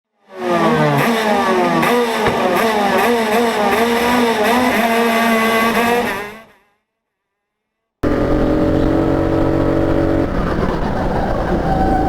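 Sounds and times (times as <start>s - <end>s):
go-kart engine revving: 0.2s - 6.5s, 8.0s - 12.0s.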